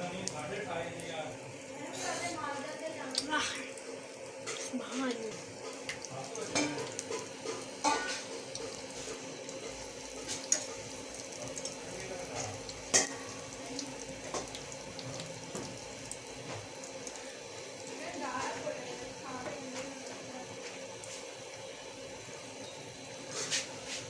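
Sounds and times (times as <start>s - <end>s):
batter sizzling in hot oil: 0.0s - 24.0s.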